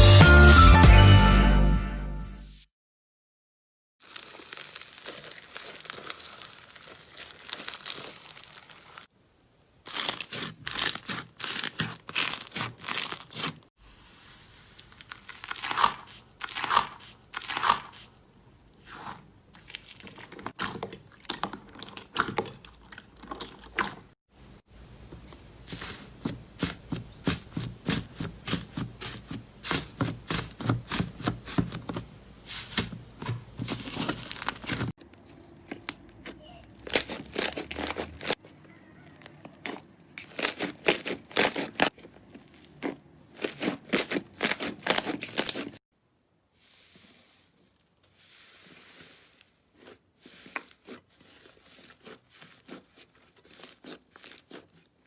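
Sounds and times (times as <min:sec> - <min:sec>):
slime squelching by hand: 0:04.0 - 0:09.1, 0:09.9 - 0:24.2, 0:25.4 - 0:45.8, 0:46.6 - 0:55.0.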